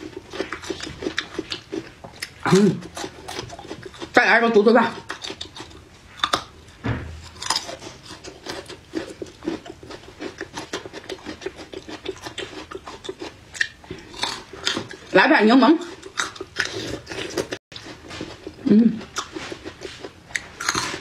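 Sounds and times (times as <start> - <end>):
chewing: 0.0 - 4.2, 4.8 - 15.1, 15.8 - 21.0.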